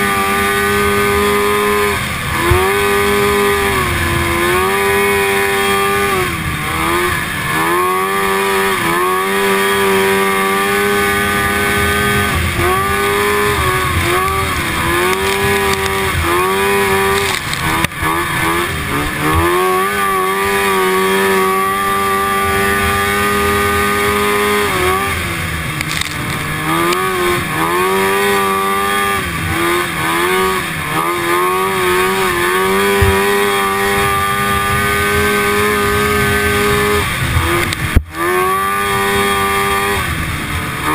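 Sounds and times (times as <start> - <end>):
snowmobile engine revving: 0.0 - 40.9.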